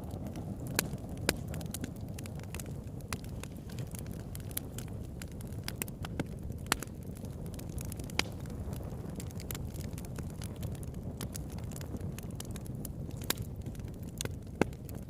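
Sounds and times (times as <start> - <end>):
burning wood crackling and popping: 0.0 - 15.0
flames rushing: 0.0 - 15.0.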